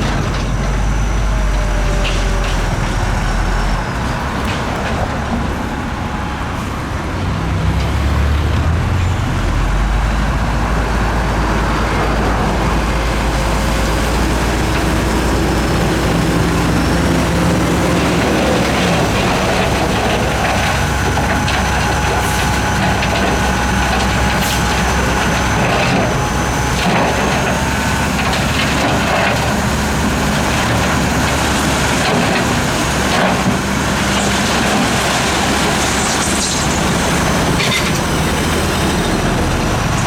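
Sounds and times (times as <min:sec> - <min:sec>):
heavy diesel engine rumbling: 0:00.0 - 0:40.0.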